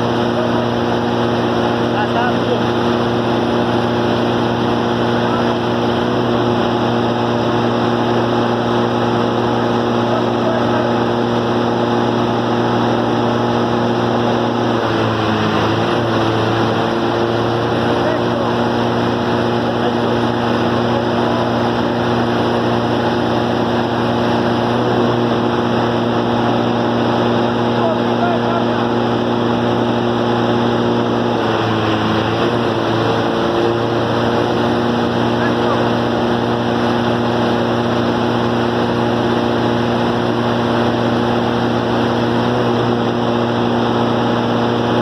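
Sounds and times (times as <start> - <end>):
diesel engine humming: 0.0 - 45.0.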